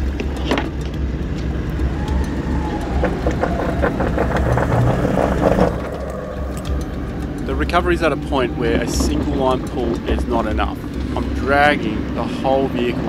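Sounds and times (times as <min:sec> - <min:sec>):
engine low rumble: 0:00.0 - 0:13.0
rapid irregular crackles and clicks: 0:00.0 - 0:13.0
faint whine: 0:01.2 - 0:13.0.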